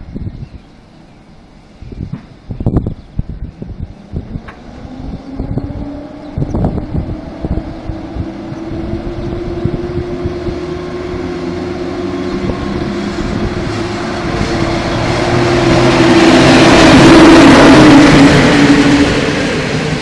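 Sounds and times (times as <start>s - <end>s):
electric locomotive hum: 0.0s - 20.0s
rail and wheel noise: 0.0s - 20.0s.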